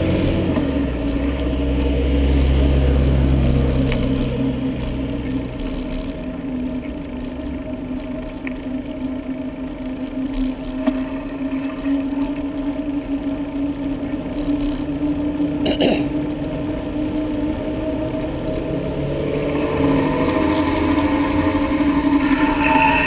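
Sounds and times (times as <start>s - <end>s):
city traffic drone: 0.0s - 23.0s.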